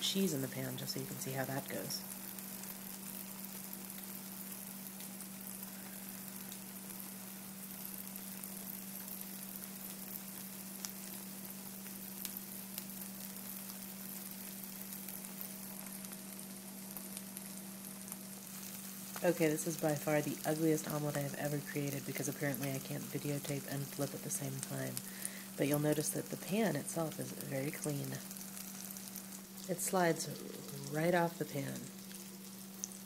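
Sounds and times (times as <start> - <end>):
omelet sizzling in a pan: 0.0 - 33.0
steady low hum: 0.0 - 33.0.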